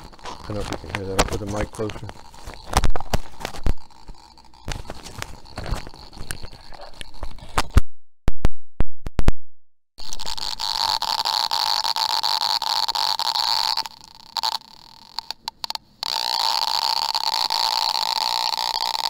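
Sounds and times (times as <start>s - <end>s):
crackles: 0.0s - 7.8s, 10.0s - 19.0s.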